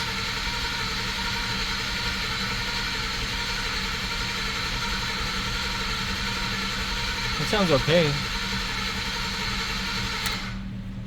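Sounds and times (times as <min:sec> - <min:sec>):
engine cranking on starter: 0:00.0 - 0:10.6.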